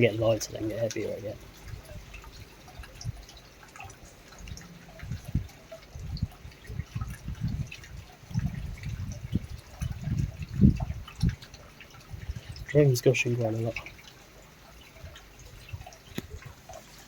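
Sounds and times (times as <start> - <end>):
large drips tapping: 0.0 - 17.0.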